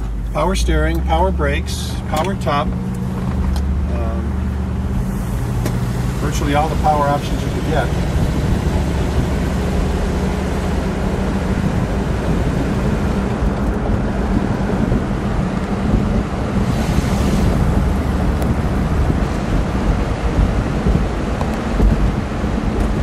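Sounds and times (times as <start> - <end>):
car engine drone: 0.0 - 23.0
road noise: 0.0 - 23.0
wind noise: 2.7 - 23.0.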